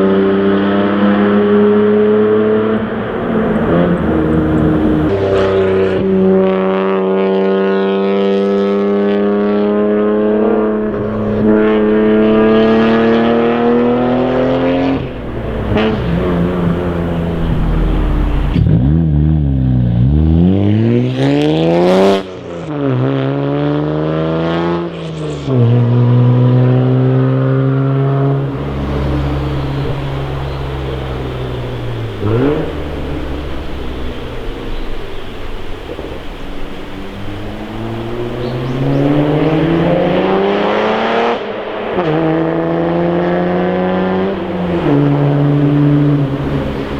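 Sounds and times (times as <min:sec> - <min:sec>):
car exhaust revving: 0:00.0 - 0:22.3, 0:23.8 - 0:46.9.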